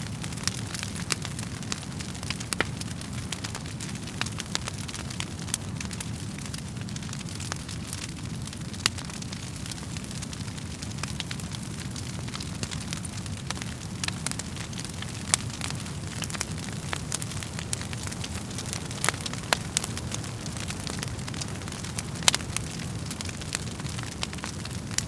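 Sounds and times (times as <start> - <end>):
fire crackles and pops: 0.0 - 25.0
fire flames rumbling: 0.0 - 25.0.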